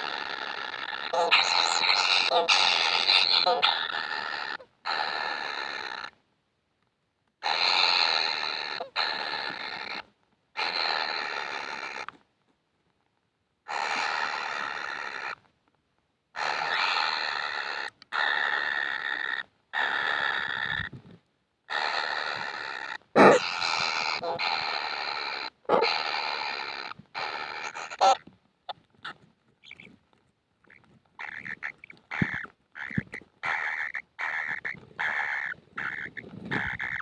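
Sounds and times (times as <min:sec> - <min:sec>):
bird chick raspy begging calls: 0:00.0 - 0:06.2, 0:07.4 - 0:10.0, 0:10.6 - 0:12.1, 0:13.7 - 0:15.4, 0:16.4 - 0:20.9, 0:21.7 - 0:28.2, 0:29.0 - 0:29.9, 0:30.6 - 0:37.0.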